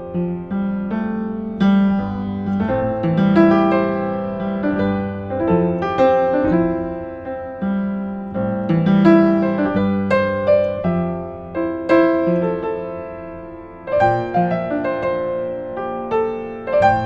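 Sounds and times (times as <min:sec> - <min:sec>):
upright piano playing chords: 0:00.0 - 0:17.0.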